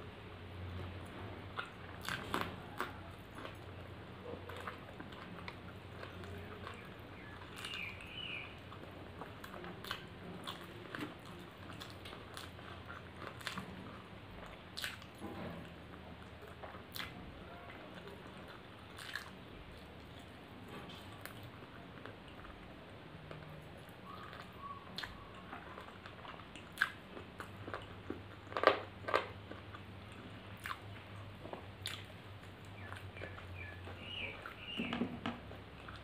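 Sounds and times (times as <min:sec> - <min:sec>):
wet chewing: 0:00.7 - 0:36.0.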